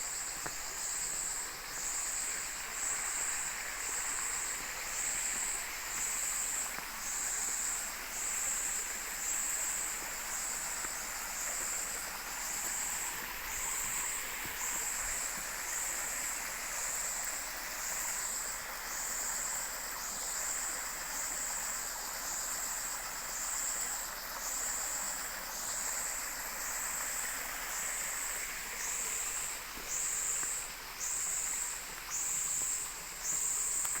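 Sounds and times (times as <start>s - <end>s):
forest stream rushing: 0.0s - 34.0s.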